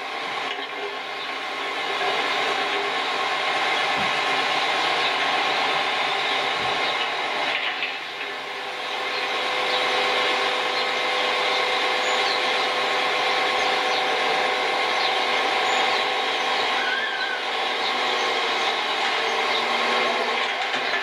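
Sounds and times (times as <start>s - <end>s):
constant hum: 0.0s - 21.0s
machinery drone: 0.0s - 21.0s.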